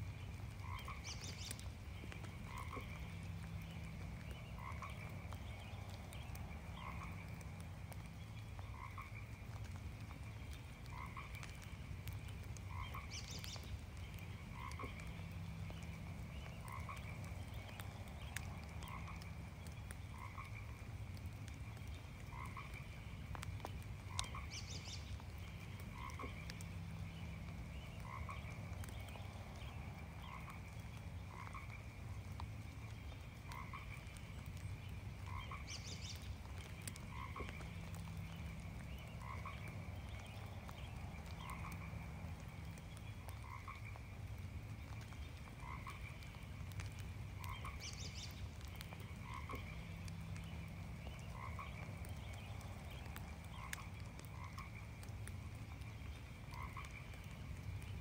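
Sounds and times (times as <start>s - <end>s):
frogs croaking: 0.0s - 58.0s
light rain falling: 0.0s - 58.0s.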